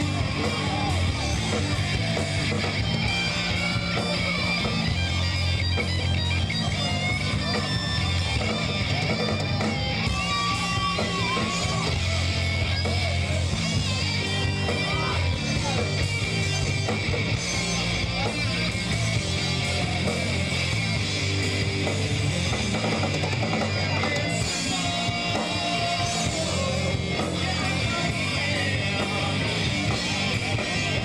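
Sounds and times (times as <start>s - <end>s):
bass guitar line: 0.0s - 31.0s
electric guitar lead: 0.0s - 31.0s.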